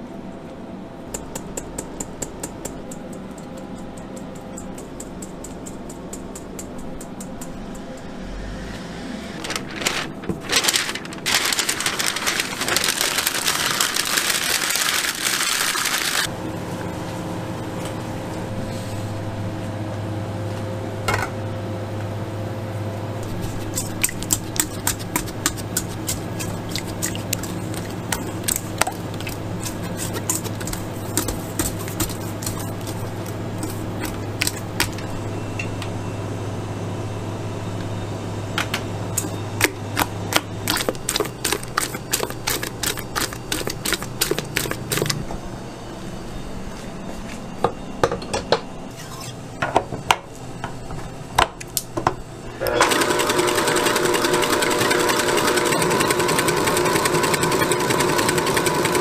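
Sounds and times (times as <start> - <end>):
steady low hum: 0.0 - 15.1, 16.2 - 52.7.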